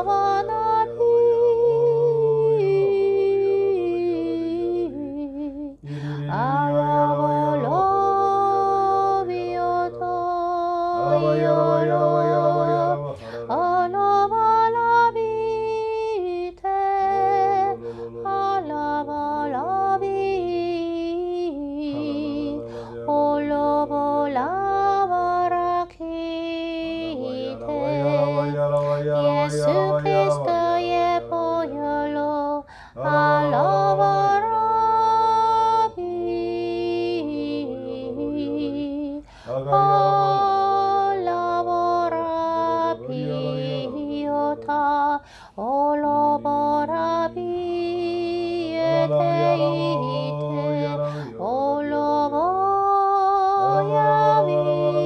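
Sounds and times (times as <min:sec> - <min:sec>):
steady low tone: 0:00.0 - 0:34.6, 0:35.6 - 0:52.7
person singing wordlessly: 0:00.0 - 0:55.0.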